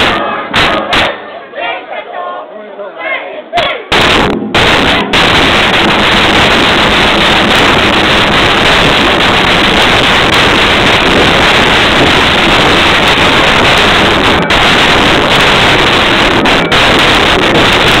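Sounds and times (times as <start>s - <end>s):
loud distorted drumming: 0.0s - 1.2s, 3.8s - 18.0s.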